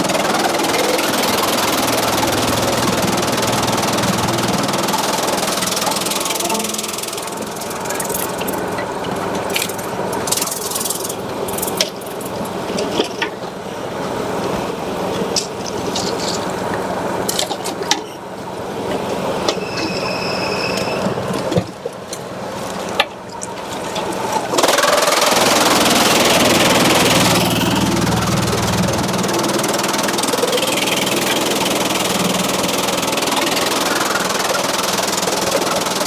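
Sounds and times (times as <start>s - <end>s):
engine-driven machinery running: 0.0s - 36.0s.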